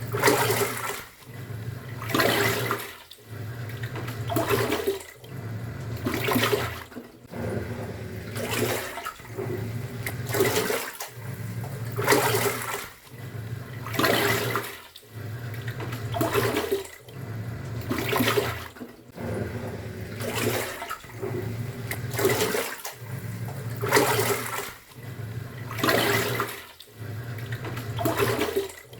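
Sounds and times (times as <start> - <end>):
washing machine motor humming: 0.0 - 28.9
water sloshing in tub: 0.0 - 28.9.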